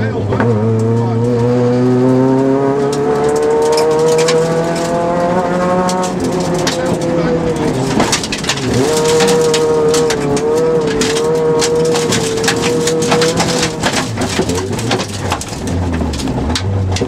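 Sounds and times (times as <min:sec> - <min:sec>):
rally car engine at high revs: 0:00.0 - 0:17.0
gravel clattering on underbody: 0:02.8 - 0:17.0.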